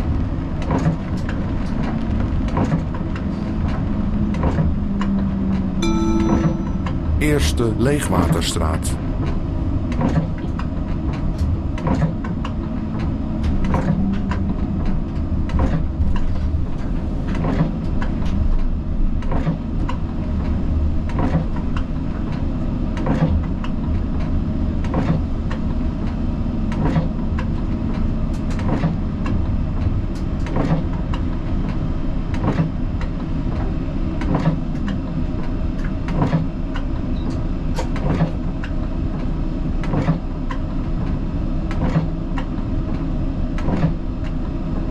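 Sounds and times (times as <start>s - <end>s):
tram wheels rumbling with hum: 0.0s - 6.1s, 9.0s - 44.9s.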